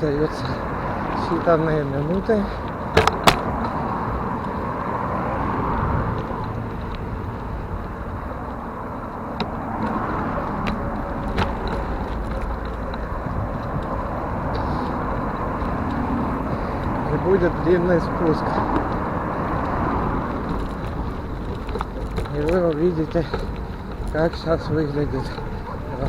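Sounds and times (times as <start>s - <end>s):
bicycle road noise: 0.0s - 26.0s.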